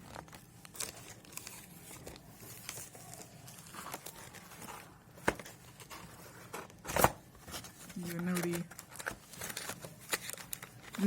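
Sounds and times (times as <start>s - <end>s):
crinkling paper and plastic packets: 0.0s - 11.0s.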